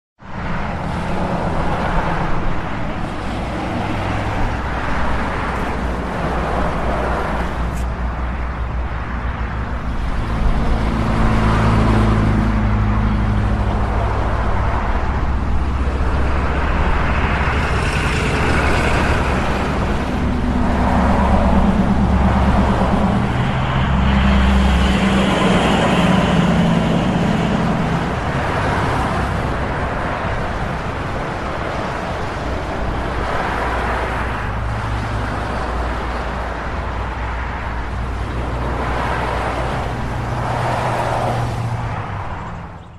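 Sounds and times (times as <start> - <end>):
cars passing: 0.2 - 42.9.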